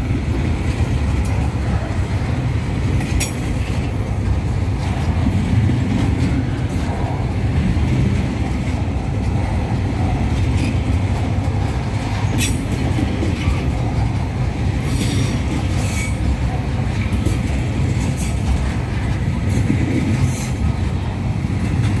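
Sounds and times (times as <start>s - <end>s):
steel wheels rumbling on rail: 0.0s - 22.0s.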